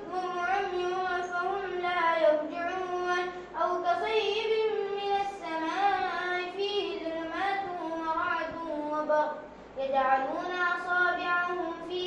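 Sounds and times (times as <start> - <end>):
boy chanting melodically: 0.0 - 12.0.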